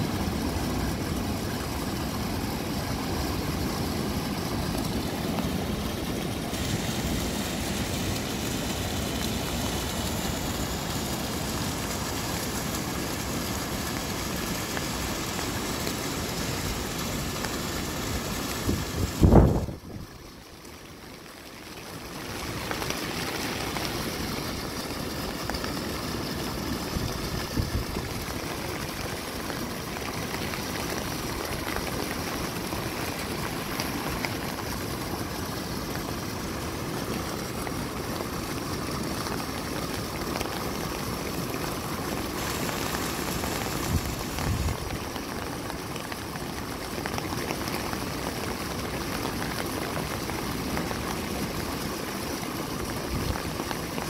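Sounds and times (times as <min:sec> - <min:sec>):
heavy rain: 0:00.0 - 0:54.0
surf washing over rocks: 0:00.0 - 0:54.0.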